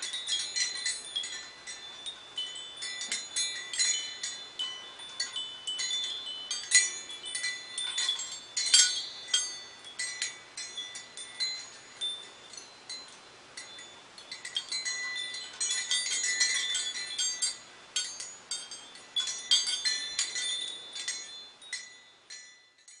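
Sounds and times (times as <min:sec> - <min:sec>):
wind chime jingling: 0:00.0 - 0:23.0.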